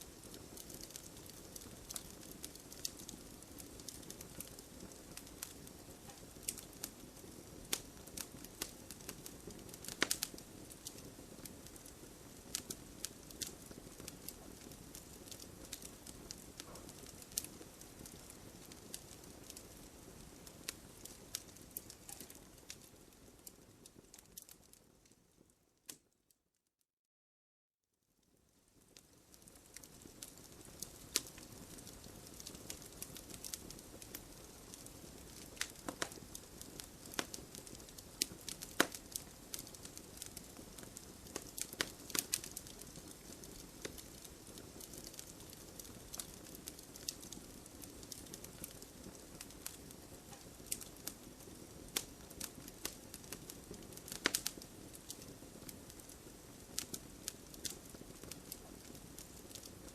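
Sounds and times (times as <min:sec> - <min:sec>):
fire crackles and pops: 0:00.0 - 0:26.1, 0:28.2 - 0:59.9.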